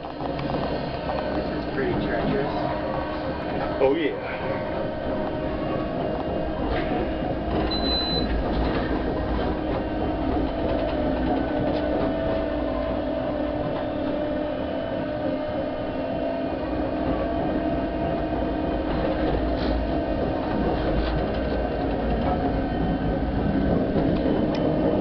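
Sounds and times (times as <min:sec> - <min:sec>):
electric railcar hum: 0:00.0 - 0:25.0
wheels rumbling on rail: 0:00.0 - 0:25.0.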